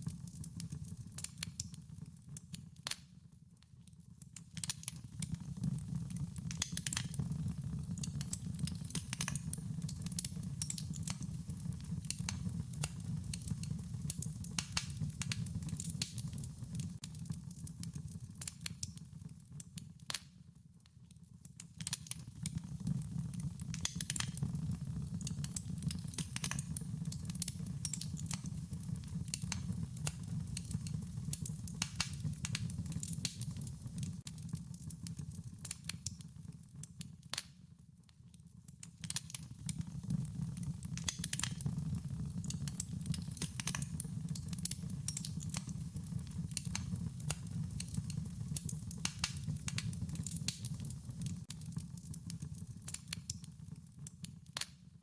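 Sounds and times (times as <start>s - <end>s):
wood fire crackling: 0.0s - 3.1s, 3.8s - 20.4s, 21.0s - 37.6s, 38.6s - 54.8s.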